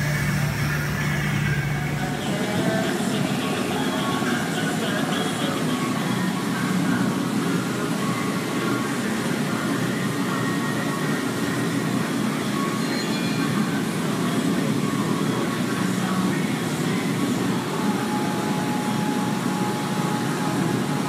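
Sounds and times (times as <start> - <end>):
machinery rumble with hiss: 0.0 - 21.0.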